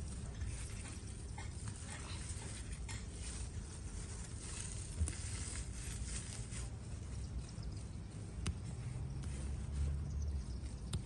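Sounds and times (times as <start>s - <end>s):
herb leaves rustling and snapping: 0.0s - 9.9s.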